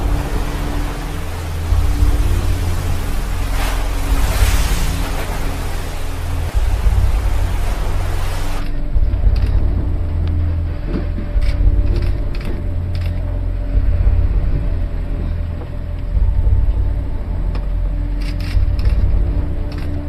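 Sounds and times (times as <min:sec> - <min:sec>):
low rumble and hum: 0:00.0 - 0:20.0.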